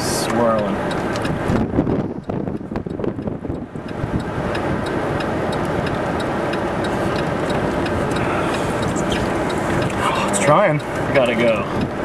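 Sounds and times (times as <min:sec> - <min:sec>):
wind and rain against vehicle: 0:00.0 - 0:12.0.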